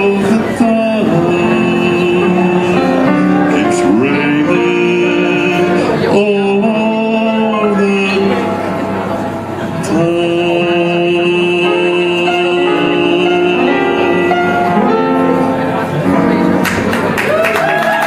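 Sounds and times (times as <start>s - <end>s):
slow ballad music: 0.0s - 17.4s.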